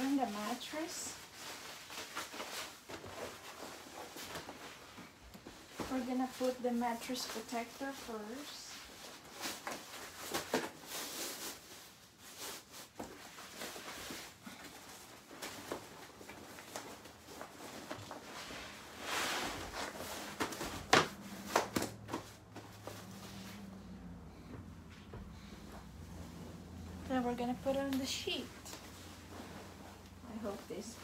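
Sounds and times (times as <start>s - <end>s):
fabric rustling: 0.0s - 31.0s.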